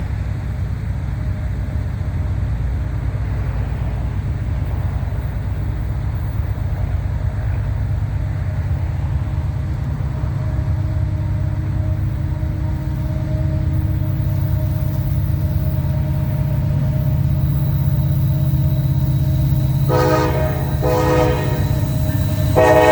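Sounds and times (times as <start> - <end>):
freight train rumbling: 0.0 - 22.9.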